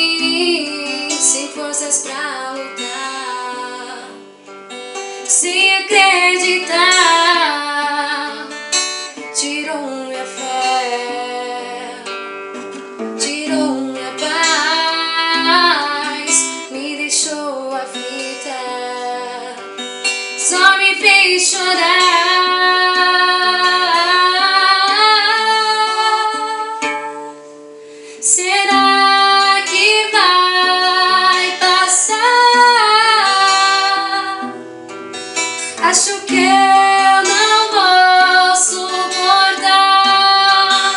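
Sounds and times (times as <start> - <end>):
woman singing a hymn: 0.0 - 4.3, 5.3 - 8.6, 9.3 - 12.2, 13.2 - 19.6, 20.4 - 27.4, 28.2 - 34.5, 35.8 - 40.9
acoustic guitar: 0.0 - 40.9.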